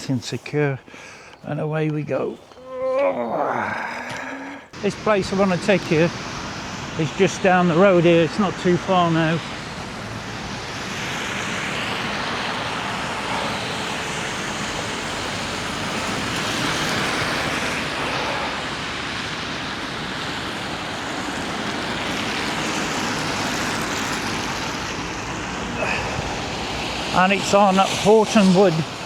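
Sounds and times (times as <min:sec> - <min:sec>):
tyres hissing on wet road: 0:03.6 - 0:29.0.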